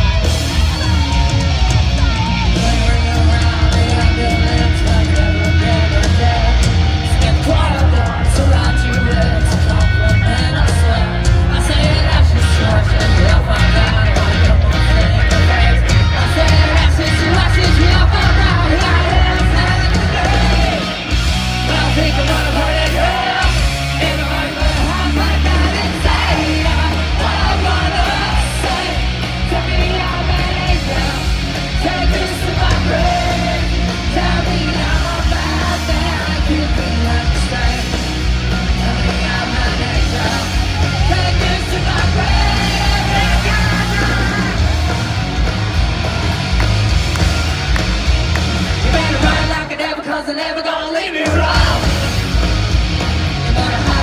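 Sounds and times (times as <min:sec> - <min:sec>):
punk rock band playing live: 0:00.0 - 0:54.0.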